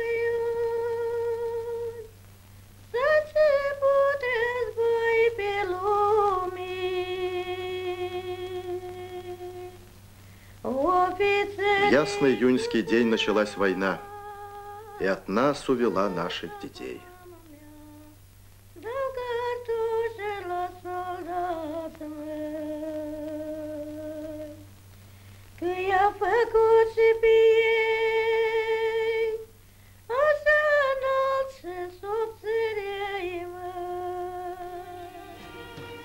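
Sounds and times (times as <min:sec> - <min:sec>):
woman singing unaccompanied: 0:00.0 - 0:02.2, 0:02.8 - 0:10.0, 0:10.6 - 0:24.8, 0:25.6 - 0:36.0.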